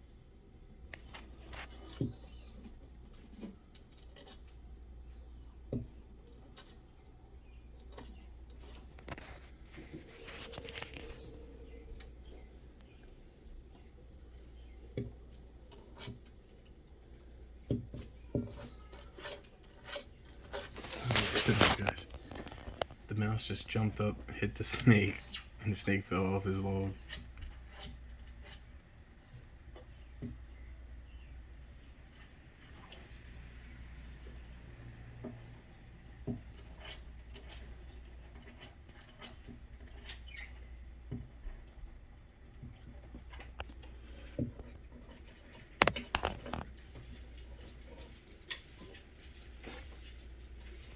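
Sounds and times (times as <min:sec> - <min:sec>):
animals scrambling on wood: 0:00.9 - 0:50.9.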